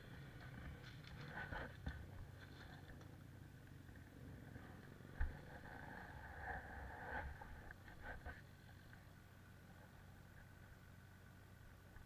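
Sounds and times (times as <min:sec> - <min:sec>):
faint engine: 0:00.0 - 0:12.0.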